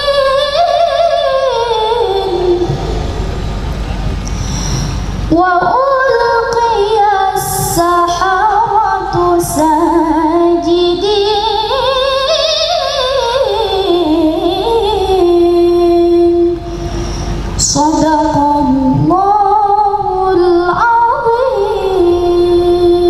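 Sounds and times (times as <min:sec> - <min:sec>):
woman chanting melodically: 0:00.0 - 0:03.1, 0:04.3 - 0:16.8, 0:17.6 - 0:23.0.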